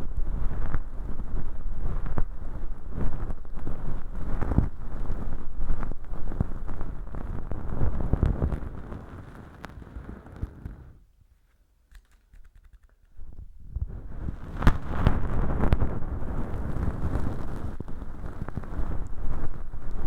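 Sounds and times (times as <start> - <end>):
earpick scratching crackly rustle: 0.0 - 20.0.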